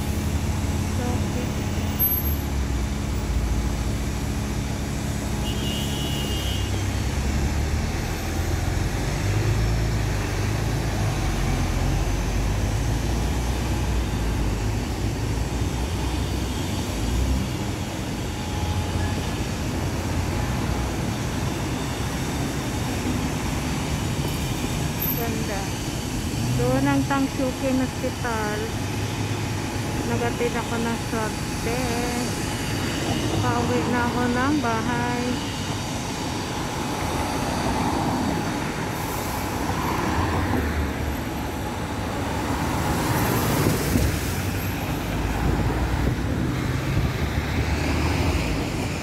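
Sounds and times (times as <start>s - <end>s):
vehicle engines passing: 0.0s - 49.0s.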